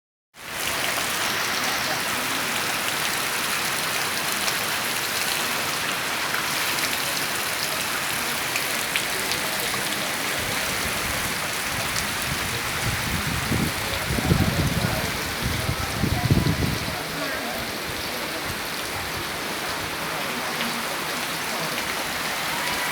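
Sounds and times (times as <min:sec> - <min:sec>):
steady rain falling: 0:00.4 - 0:22.9.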